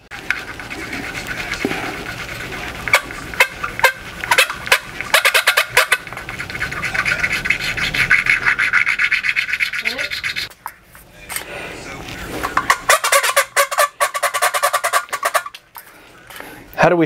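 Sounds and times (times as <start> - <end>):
metal rubbing on metal: 0.0 - 10.5, 12.2 - 15.6.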